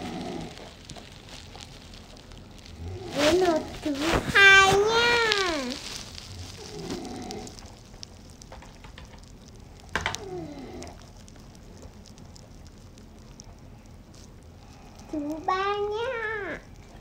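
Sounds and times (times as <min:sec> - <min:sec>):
plastic toys rustling: 0:00.0 - 0:17.0.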